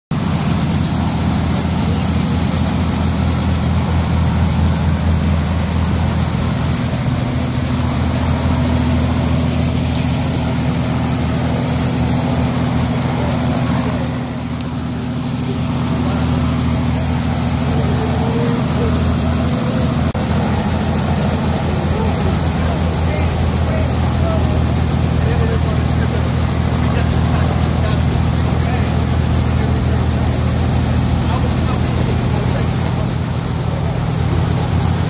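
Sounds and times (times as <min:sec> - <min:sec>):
helicopter engine and rotor drone: 0:00.1 - 0:35.0
faint voices: 0:00.2 - 0:35.0.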